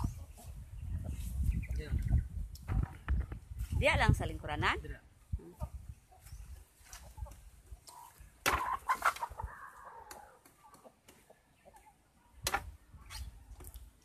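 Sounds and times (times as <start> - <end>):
chickens clucking: 0.0 - 3.5, 5.4 - 13.7.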